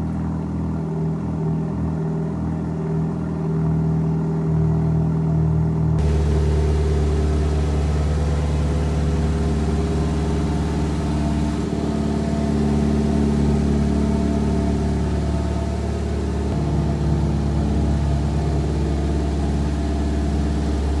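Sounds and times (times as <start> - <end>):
car engine idling: 0.3 - 21.0.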